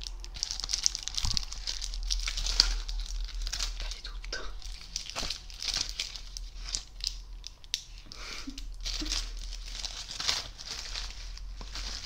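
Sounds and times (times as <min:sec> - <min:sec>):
wrapping paper crackling: 0:00.0 - 0:12.0.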